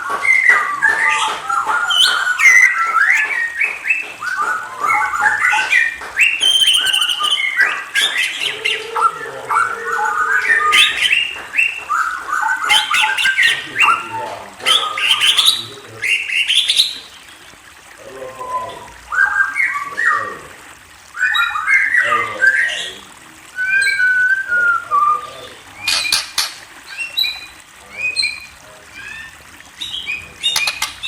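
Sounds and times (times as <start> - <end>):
songbird singing: 0.2 - 17.4, 21.2 - 31.0.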